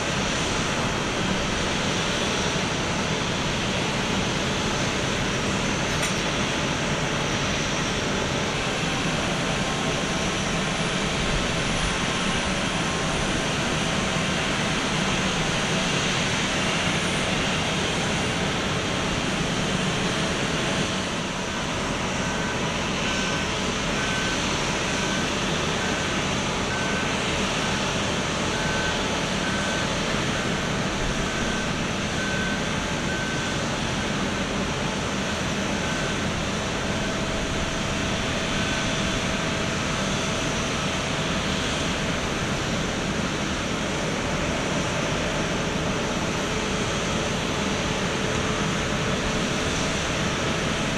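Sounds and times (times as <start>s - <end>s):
vehicle reversing beeper: 0.0s - 43.1s
aircraft and ground equipment noise: 0.0s - 50.9s.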